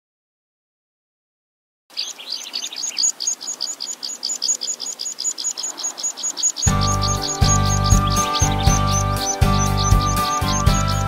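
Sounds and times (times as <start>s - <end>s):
bird chirping: 1.9s - 11.0s.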